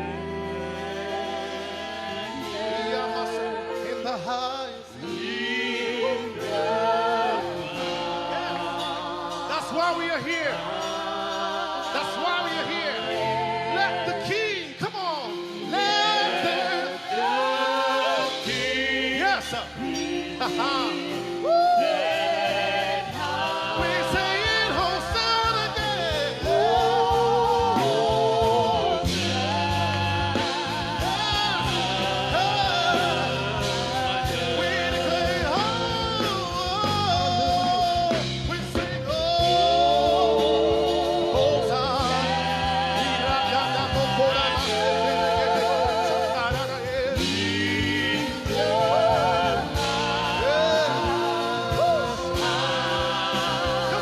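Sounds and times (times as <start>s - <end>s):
instrumental accompaniment: 0.0s - 54.0s.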